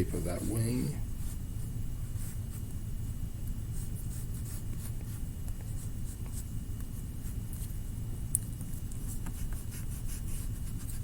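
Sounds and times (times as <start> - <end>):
pencil scratching on paper: 0.0 - 2.7, 3.7 - 7.8, 8.7 - 11.0
steady low hum: 0.0 - 11.0.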